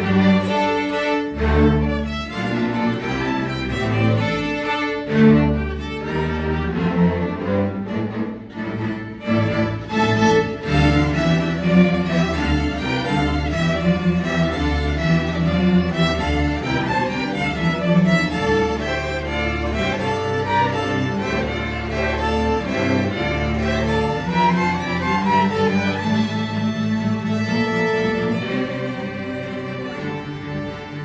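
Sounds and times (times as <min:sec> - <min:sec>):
bowed string music: 0:00.0 - 0:31.0.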